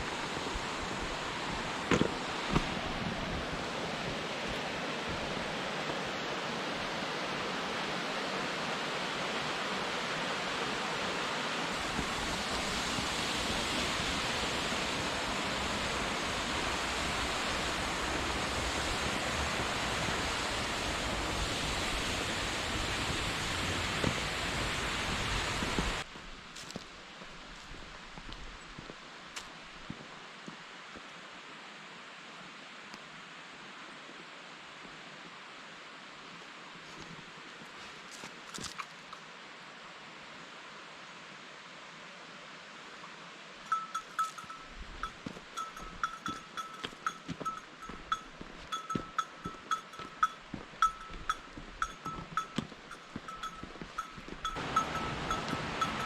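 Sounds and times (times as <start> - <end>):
rushing water: 0.0 - 26.1, 29.0 - 56.0
outdoor background noise: 0.0 - 56.0.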